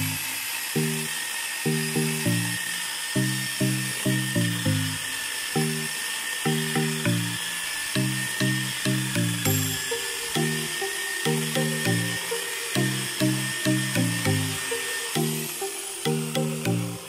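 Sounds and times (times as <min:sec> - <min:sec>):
background music low notes: 0:00.0 - 0:17.0
electric chainsaw cutting log: 0:00.0 - 0:17.0.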